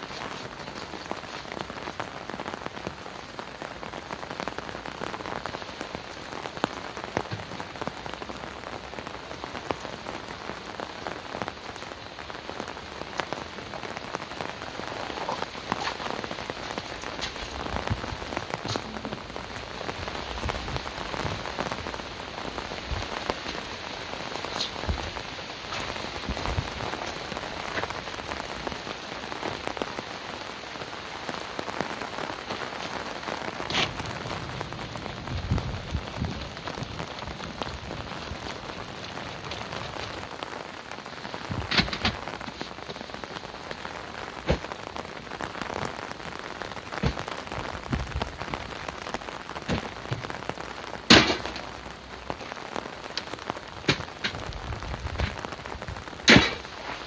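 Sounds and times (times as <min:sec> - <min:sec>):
heavy rain falling: 0:00.0 - 0:57.0
raindrops tapping: 0:00.0 - 0:57.0.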